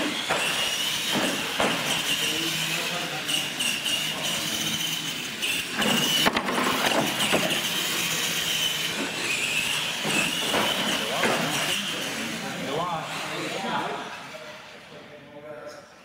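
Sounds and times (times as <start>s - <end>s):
toy truck motors whining: 0.0s - 14.9s.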